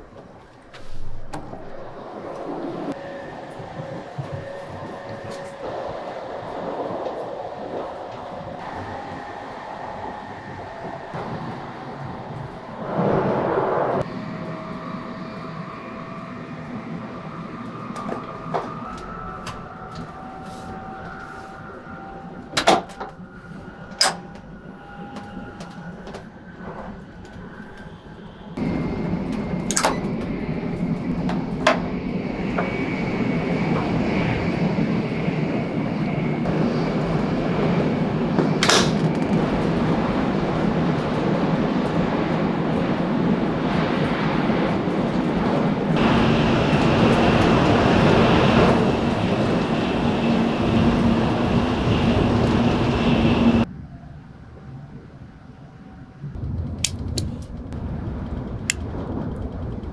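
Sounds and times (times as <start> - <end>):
train running noise from inside: 0.0 - 54.8, 55.4 - 59.9.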